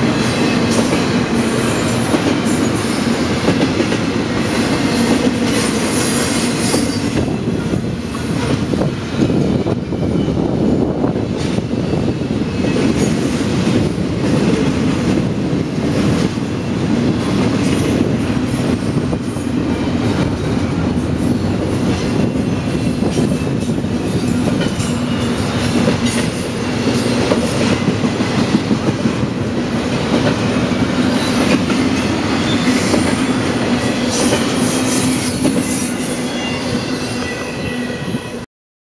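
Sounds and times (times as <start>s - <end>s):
freight train rumbling past: 0.0s - 38.4s.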